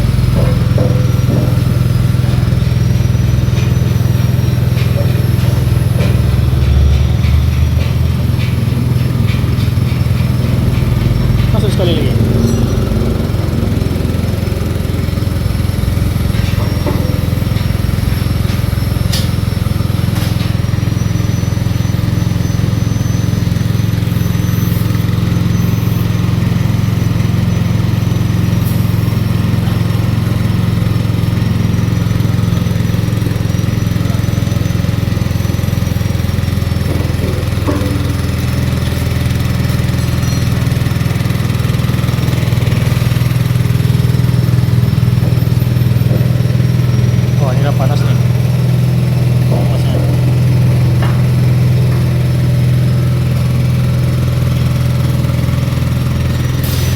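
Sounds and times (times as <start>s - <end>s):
press machine humming: 0.0s - 56.9s.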